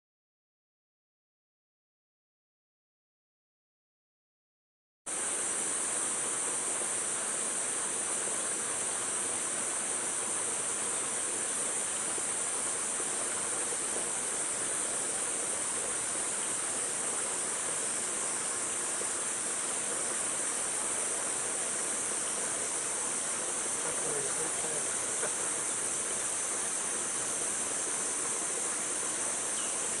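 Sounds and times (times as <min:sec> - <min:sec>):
background hiss: 0:05.1 - 0:30.0
high-pitched insect chorus: 0:05.1 - 0:30.0.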